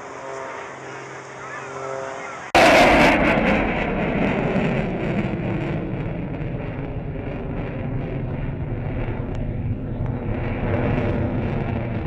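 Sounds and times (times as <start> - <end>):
fighter jet engine rumble: 0.0 - 12.0.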